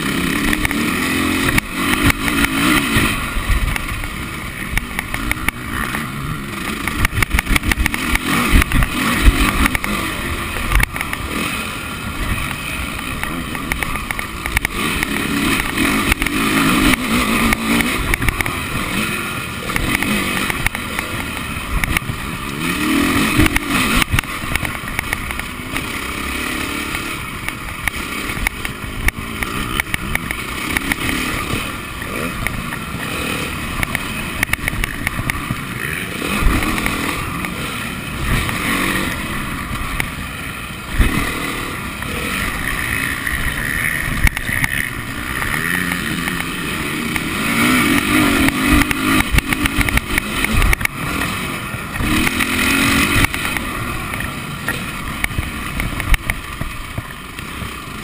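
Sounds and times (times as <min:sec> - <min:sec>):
motocross bike engine: 0:00.0 - 0:58.0.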